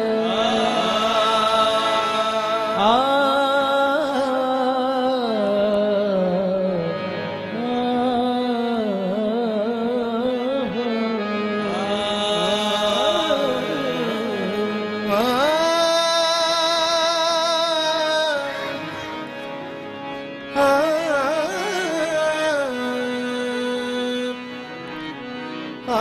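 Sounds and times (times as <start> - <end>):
person singing ornamented melody: 0.0 - 6.9, 7.5 - 19.0, 20.6 - 24.4.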